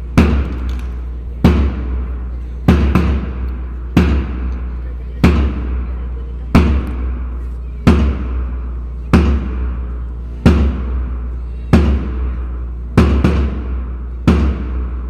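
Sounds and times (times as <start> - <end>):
bass drum booming: 0.0 - 15.0.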